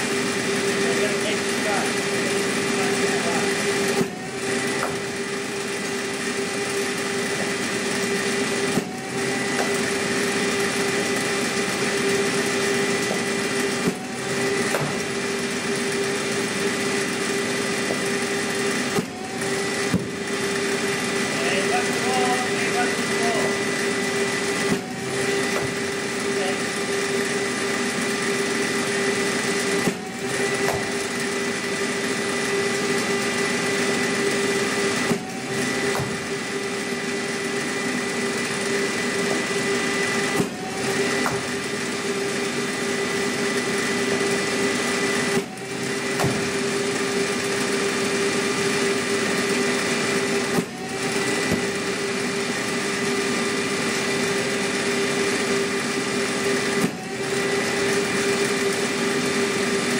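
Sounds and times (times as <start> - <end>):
bowling machine wheels whirring: 0.0 - 59.9.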